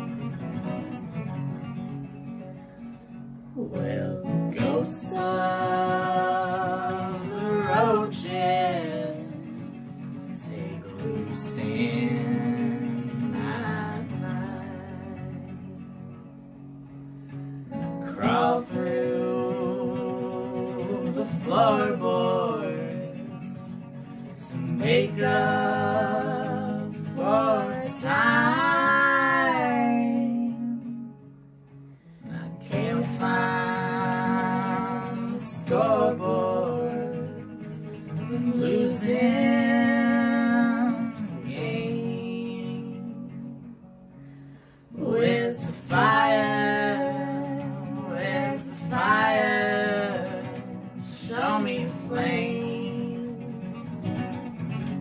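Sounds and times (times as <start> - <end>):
strummed acoustic guitar: 0.0 - 55.0
woman singing: 3.6 - 16.4, 17.8 - 31.2, 32.3 - 43.9, 44.9 - 54.1.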